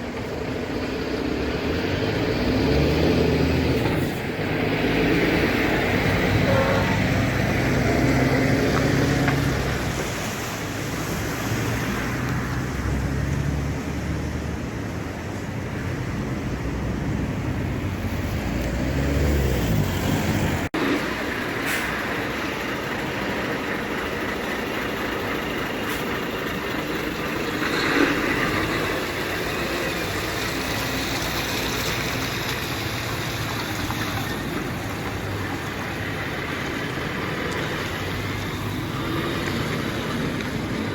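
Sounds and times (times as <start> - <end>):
trucks driving past: 0.0 - 40.9.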